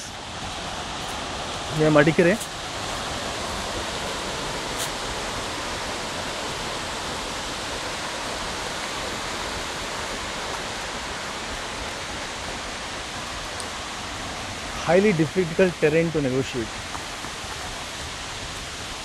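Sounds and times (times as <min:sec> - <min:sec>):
large waterfall rushing: 0:00.0 - 0:19.0.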